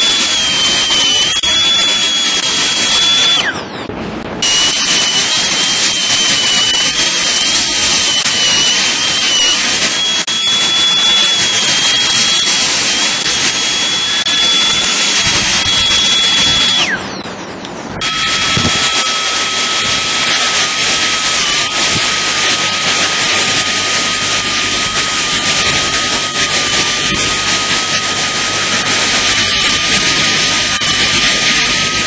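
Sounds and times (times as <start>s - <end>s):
dental drill whining: 0.0s - 17.3s, 18.0s - 32.0s.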